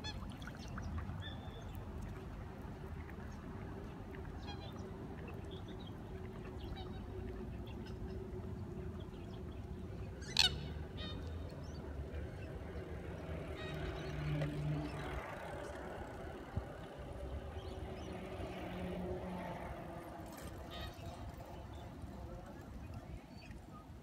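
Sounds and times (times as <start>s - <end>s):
low outdoor rumble: 0.8s - 24.0s.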